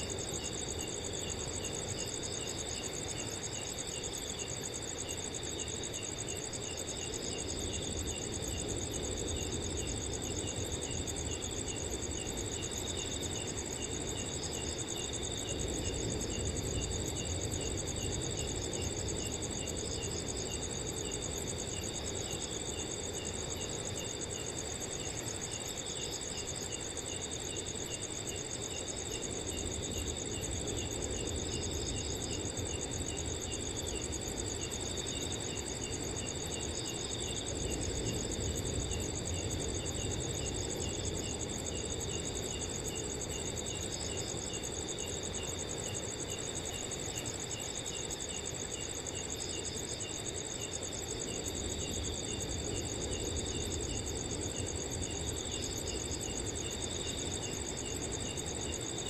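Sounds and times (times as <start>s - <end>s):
crickets chirping: 0.0s - 59.0s
low rush of wind: 0.0s - 59.0s.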